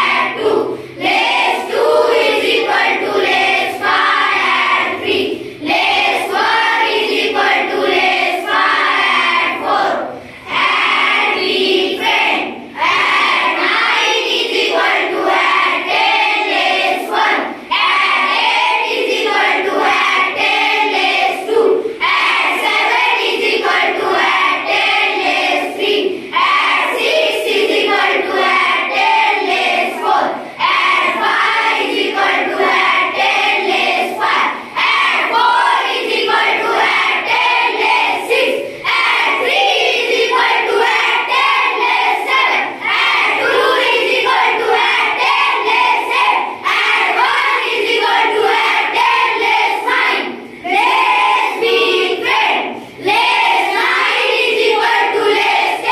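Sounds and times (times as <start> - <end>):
children chanting in unison: 0.0 - 55.9.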